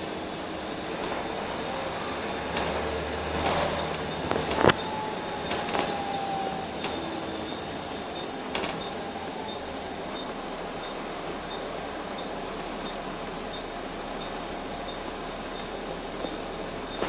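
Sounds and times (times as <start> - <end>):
bus interior low rumble: 0.0 - 17.0.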